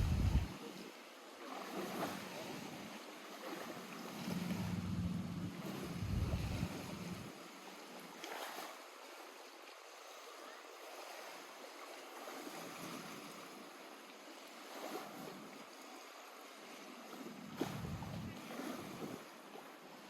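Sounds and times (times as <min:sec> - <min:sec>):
waves lapping at shore: 0:00.0 - 0:20.0.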